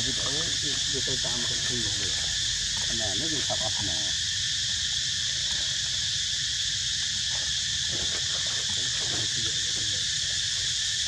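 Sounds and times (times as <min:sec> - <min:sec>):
low outdoor rumble: 0:00.0 - 0:10.7
high-pitched insect chorus: 0:00.0 - 0:11.0.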